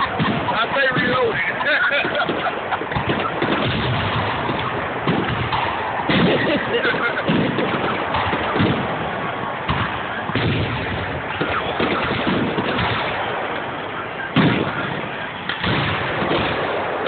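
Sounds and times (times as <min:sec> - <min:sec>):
fireworks booms and crackles: 0:00.0 - 0:17.0.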